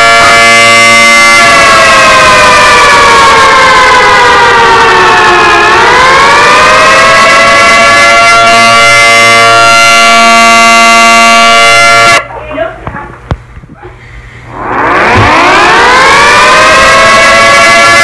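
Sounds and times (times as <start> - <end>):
buzzy alarm siren: 0.0 - 12.3, 14.5 - 18.0.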